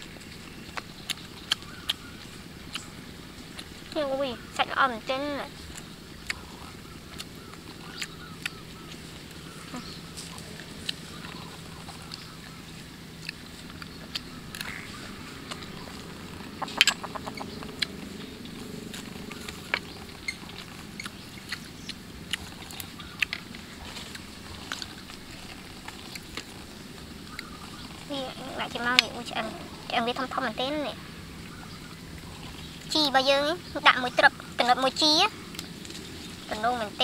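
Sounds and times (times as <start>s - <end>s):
chewing and mouth sounds: 0.0s - 33.0s
faint low hum: 0.0s - 37.0s.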